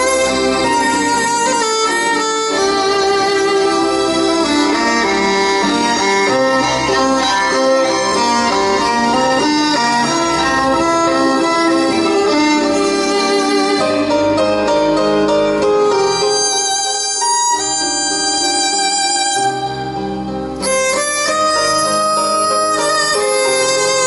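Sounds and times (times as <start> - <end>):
low accompaniment: 0.0 - 24.0
violin melody: 0.0 - 24.0.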